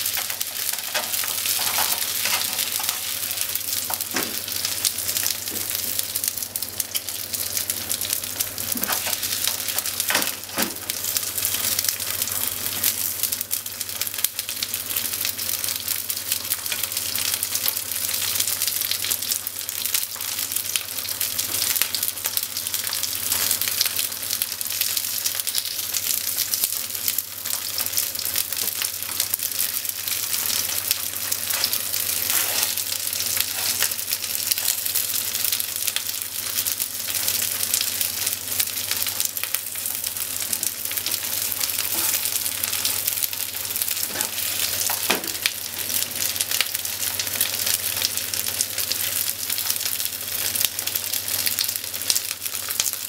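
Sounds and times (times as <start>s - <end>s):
tofu sizzling and popping in oil: 0.0s - 53.0s.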